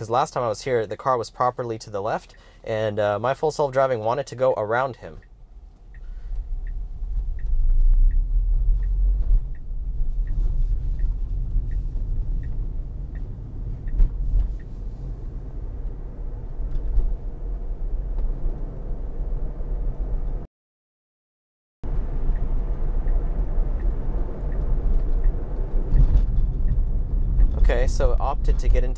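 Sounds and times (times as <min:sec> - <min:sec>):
road and tyre rumble in car: 0:00.0 - 0:20.5, 0:21.8 - 0:28.9
turn signal ticking: 0:00.1 - 0:20.5, 0:21.8 - 0:28.9.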